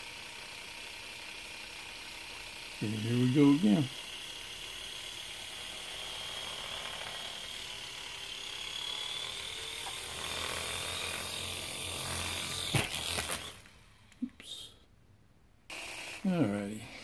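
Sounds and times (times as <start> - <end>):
toy helicopter rotors whining: 0.0 - 14.6, 15.7 - 17.0.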